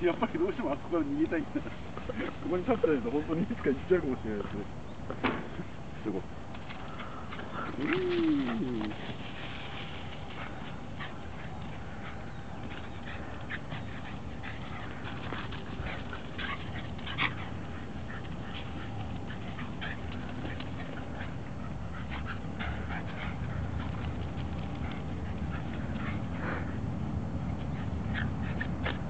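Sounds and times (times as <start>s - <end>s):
dogs play-wrestling noises: 0.1s - 29.0s
low steady rumble: 5.6s - 29.0s.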